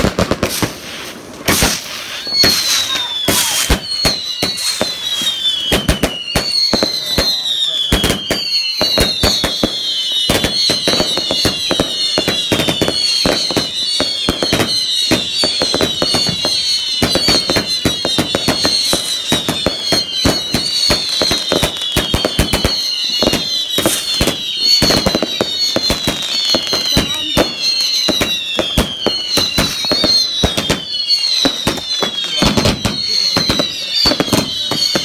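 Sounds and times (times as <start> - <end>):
falling firework whistles: 0.0 - 35.0
fireworks bangs and crackles: 0.0 - 35.0.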